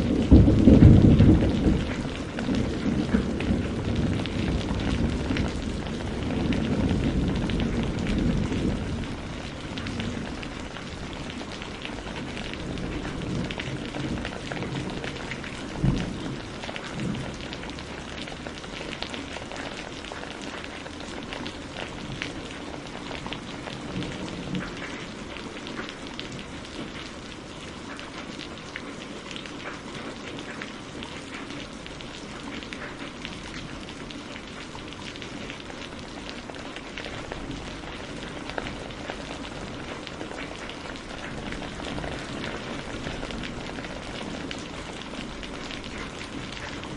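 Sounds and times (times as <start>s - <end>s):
low thunder rumbles: 0.0s - 27.3s, 31.7s - 46.9s
steady rain falling: 0.0s - 46.9s.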